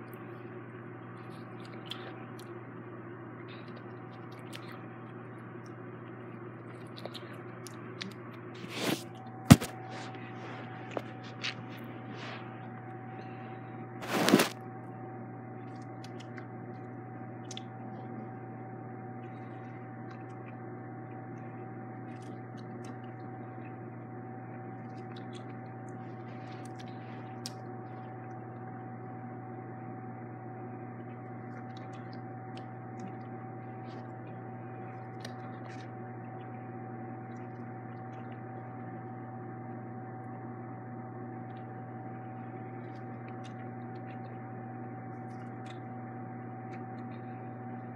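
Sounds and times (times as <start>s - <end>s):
background hum: 0.0s - 47.9s.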